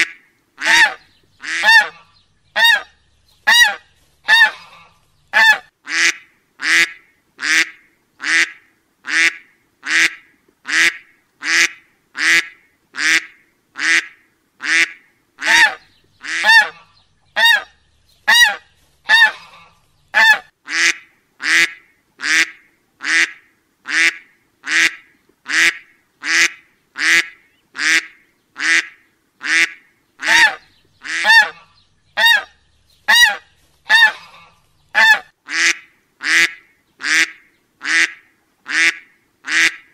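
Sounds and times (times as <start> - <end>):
duck quacking: 0.0 - 2.9, 3.5 - 17.7, 18.3 - 39.9.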